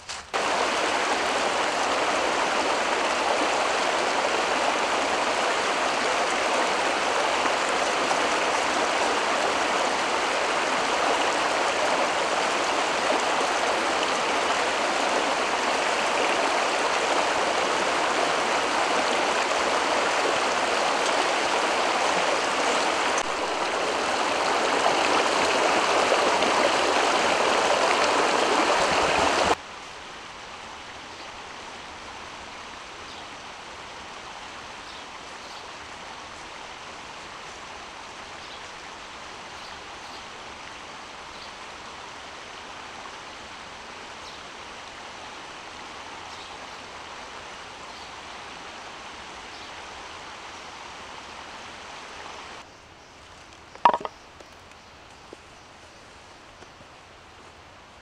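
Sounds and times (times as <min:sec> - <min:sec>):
stream running over rocks: 0:00.0 - 0:58.0.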